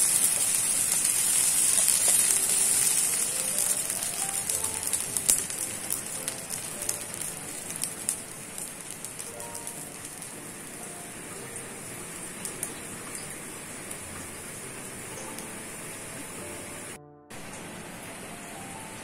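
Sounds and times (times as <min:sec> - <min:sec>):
rice sizzling in a pan: 0:00.0 - 0:17.6.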